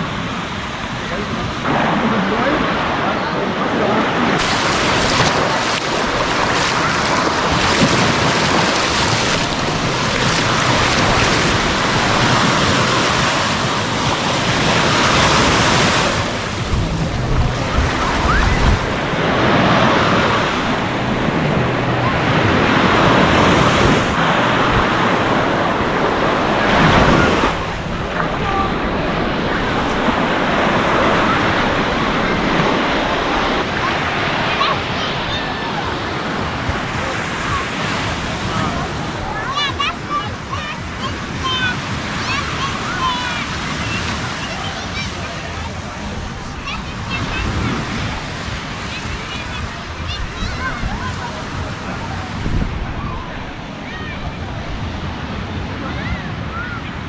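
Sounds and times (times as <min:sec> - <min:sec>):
wind on microphone: 0:00.0 - 0:39.5, 0:45.4 - 0:56.7
waves breaking on beach: 0:00.0 - 0:57.0.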